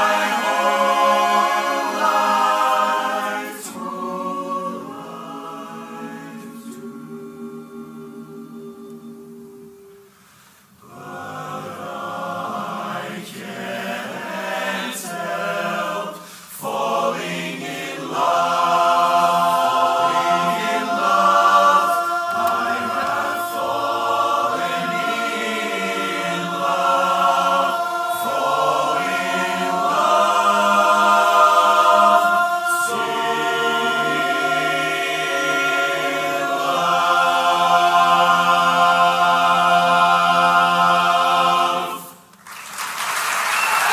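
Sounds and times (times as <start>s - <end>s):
men's chorus singing a cappella: 0.0s - 10.0s, 10.8s - 42.3s.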